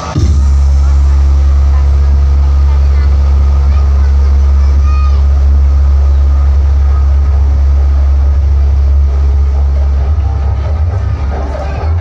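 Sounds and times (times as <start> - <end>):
deep bass drone: 0.0 - 12.0.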